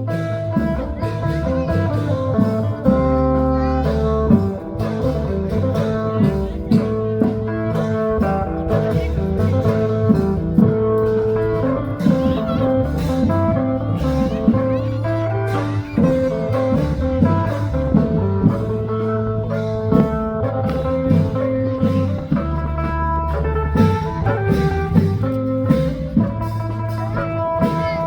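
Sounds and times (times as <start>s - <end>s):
plucked string melody: 0.0s - 28.0s
steady drum beat: 0.0s - 28.0s.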